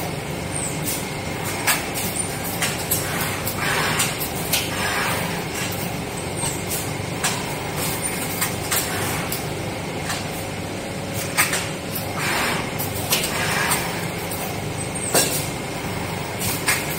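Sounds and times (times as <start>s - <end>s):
machine mechanical hum: 0.0s - 16.9s.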